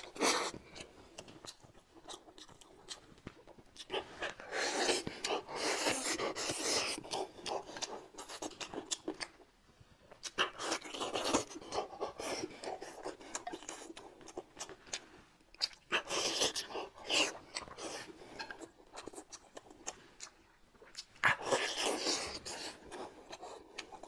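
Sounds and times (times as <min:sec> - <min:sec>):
chewing and lip-smacking: 0:00.0 - 0:24.0.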